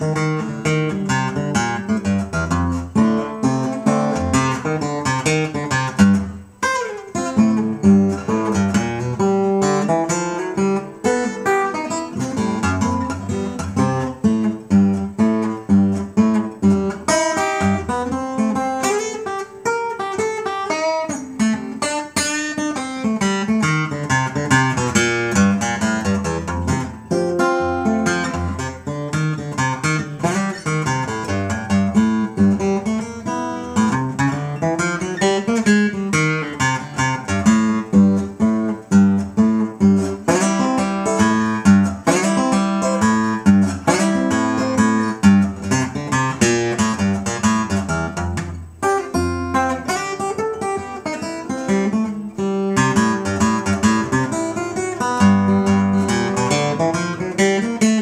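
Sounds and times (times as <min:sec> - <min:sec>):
fingerpicked acoustic guitar: 0:00.0 - 0:58.0.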